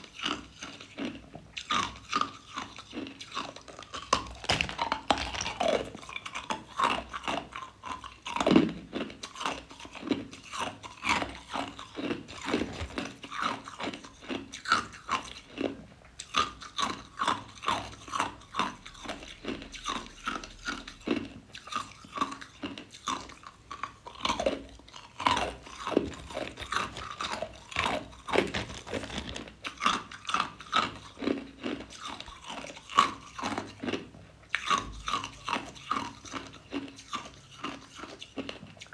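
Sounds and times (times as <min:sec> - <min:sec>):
ice cubes crunching: 0:00.0 - 0:20.4, 0:21.6 - 0:34.0.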